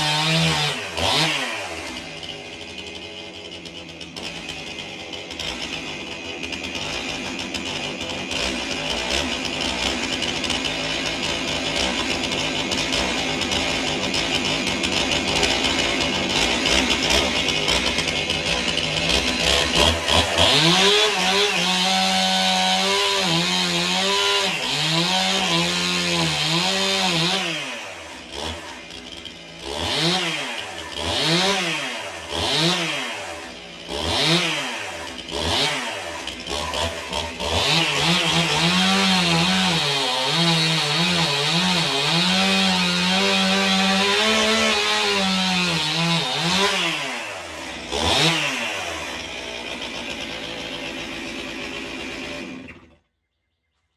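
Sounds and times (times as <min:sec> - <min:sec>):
chainsaw revving: 0:00.0 - 0:53.1.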